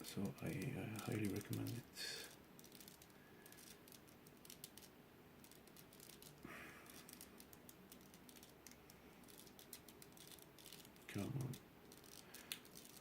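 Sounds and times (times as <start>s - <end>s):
puzzle cube plastic clicking: 0.6s - 13.0s.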